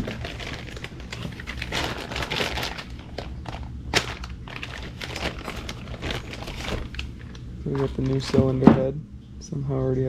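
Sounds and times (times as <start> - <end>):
packaging crinkling and rustling: 0.0 - 8.7.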